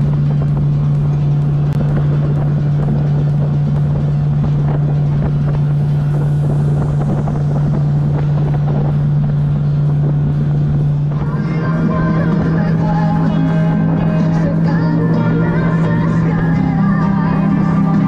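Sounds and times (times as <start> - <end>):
motorboat engine drone: 0.0 - 18.0
water rushing against hull: 0.0 - 18.0
wind on microphone: 0.0 - 18.0.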